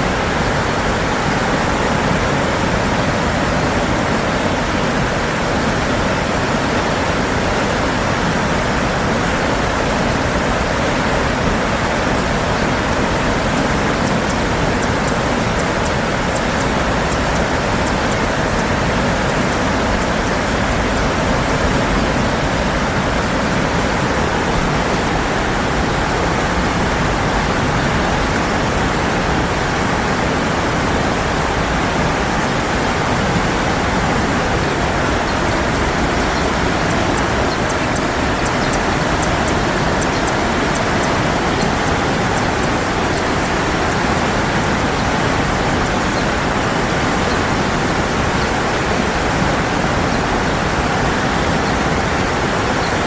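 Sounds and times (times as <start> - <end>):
rush of running water: 0.0 - 53.0.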